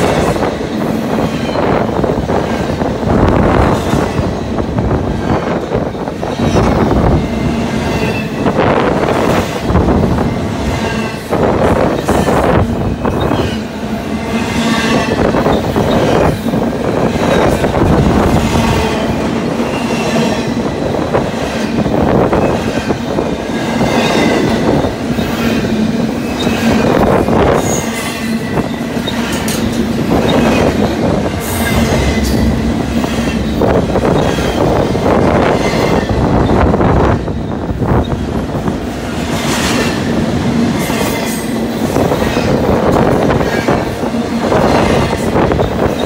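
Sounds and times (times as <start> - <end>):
train wheels rumbling and clattering: 0.0 - 46.0.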